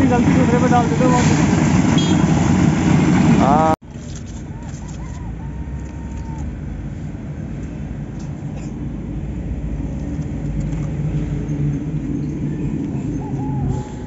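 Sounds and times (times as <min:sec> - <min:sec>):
engine hum: 0:00.0 - 0:14.0
road traffic rumble: 0:00.0 - 0:14.0.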